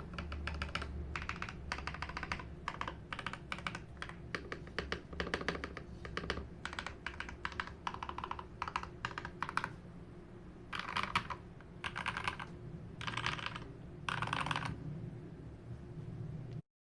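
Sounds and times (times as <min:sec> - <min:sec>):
mechanical keyboard typing: 0:00.0 - 0:09.8, 0:10.7 - 0:14.8.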